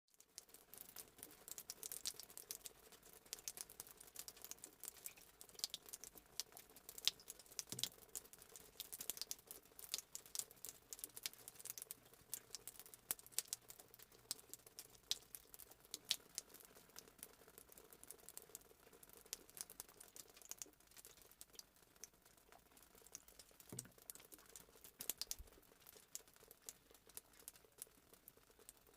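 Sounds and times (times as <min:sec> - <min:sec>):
water dripping: 0:00.1 - 0:28.9.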